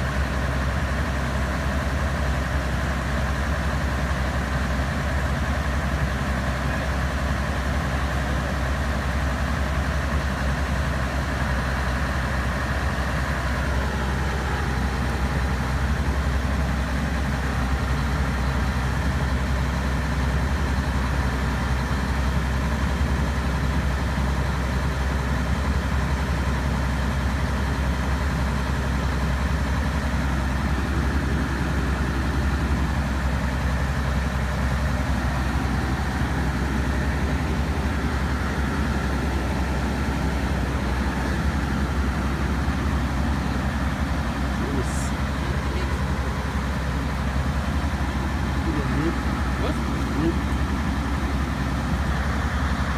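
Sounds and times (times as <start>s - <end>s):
diesel engines humming: 0.0s - 52.9s.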